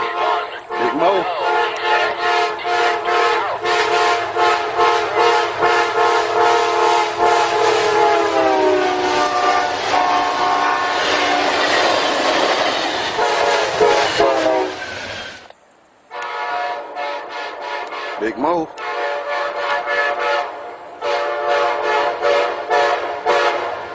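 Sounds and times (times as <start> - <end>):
locomotive air horn chord: 0.0 - 11.6, 13.2 - 14.8, 16.1 - 23.9.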